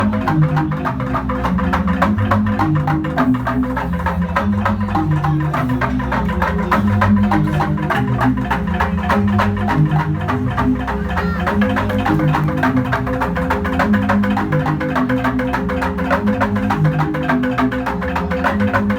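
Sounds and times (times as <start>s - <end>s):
bamboo gamelan playing: 0.0s - 18.9s.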